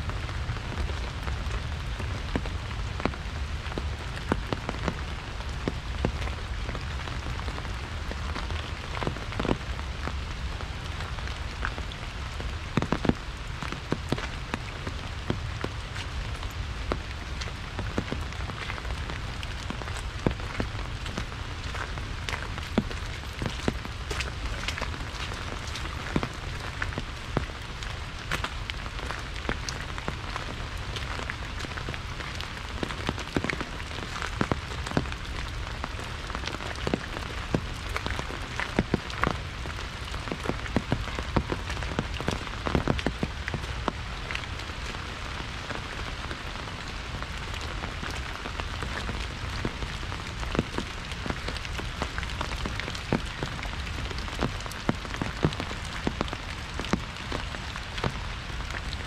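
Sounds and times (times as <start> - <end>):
rain hissing on umbrella: 0.0 - 59.0
raindrops striking umbrella: 0.0 - 59.0.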